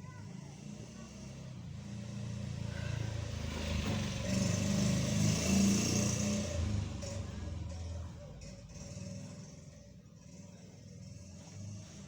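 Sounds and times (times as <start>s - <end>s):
vehicle engine approaching: 0.5s - 12.0s.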